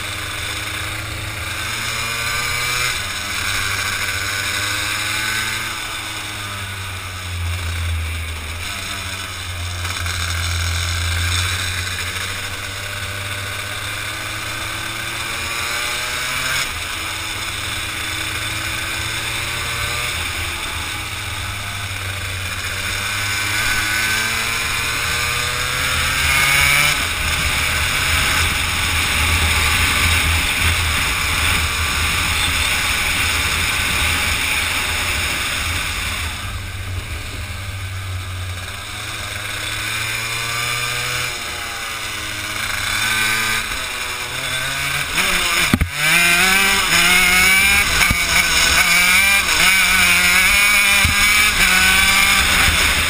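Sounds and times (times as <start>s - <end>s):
two-stroke kart engine racing: 0.0s - 53.0s.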